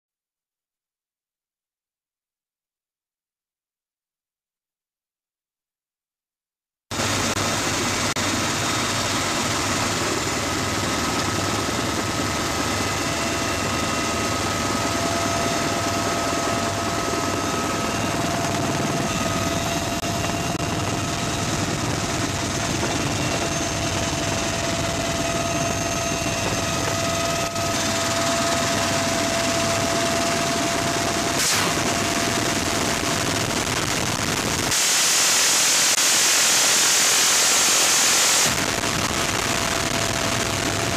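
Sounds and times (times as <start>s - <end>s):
helicopter roar: 6.9s - 40.9s
high whine: 6.9s - 40.9s.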